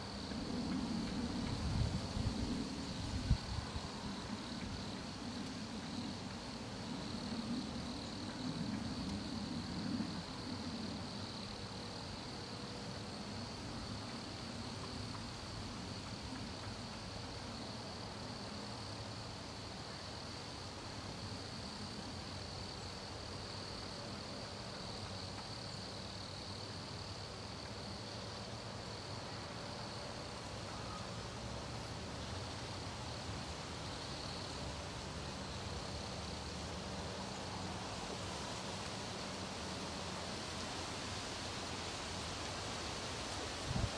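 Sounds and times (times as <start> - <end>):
crickets singing in chorus: 0.0 - 43.9.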